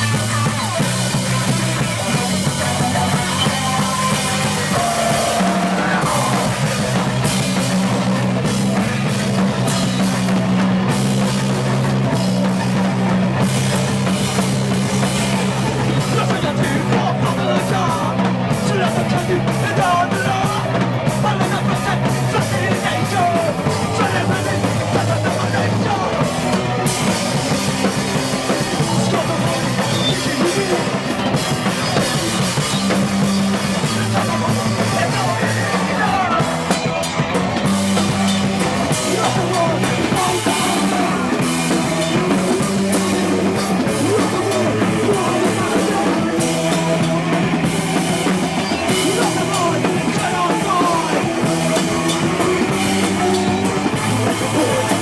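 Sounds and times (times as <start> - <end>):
bass line: 0.0 - 55.0
live rock band playing: 0.0 - 55.0
pounding drum kit: 0.0 - 55.0.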